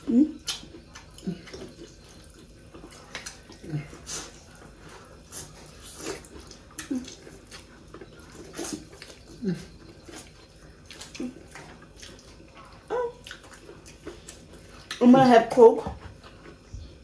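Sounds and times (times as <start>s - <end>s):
wet chewing and smacking: 0.0s - 17.0s.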